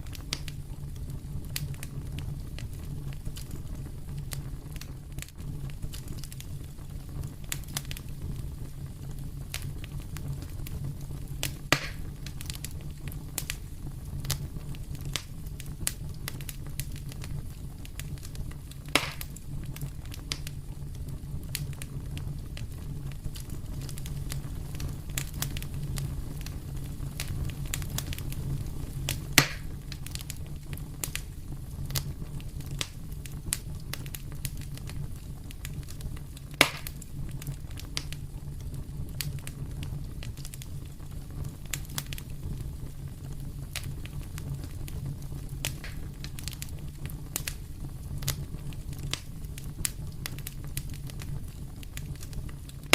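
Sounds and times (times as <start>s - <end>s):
fire crackling: 0.0s - 52.9s
fire popping: 0.0s - 52.9s.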